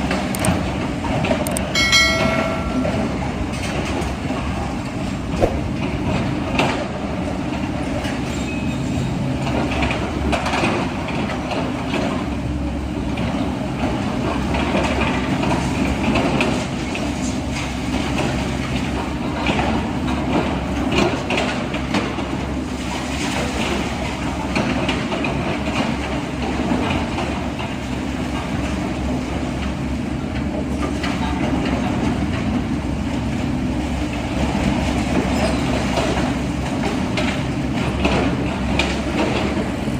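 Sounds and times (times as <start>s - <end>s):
heavy machinery engine drone: 0.0s - 39.9s.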